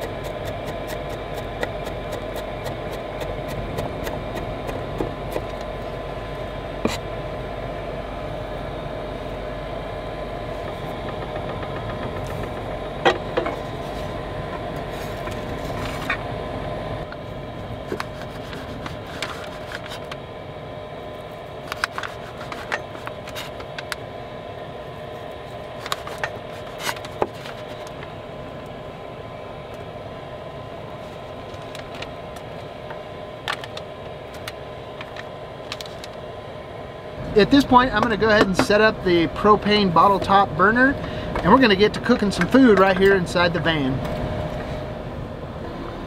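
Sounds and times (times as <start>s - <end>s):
low hum: 0.0s - 46.0s.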